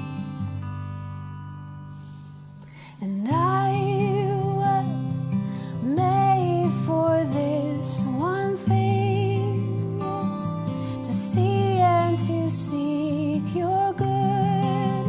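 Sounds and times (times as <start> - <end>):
acoustic guitar: 0.0 - 15.0
woman singing: 2.8 - 15.0.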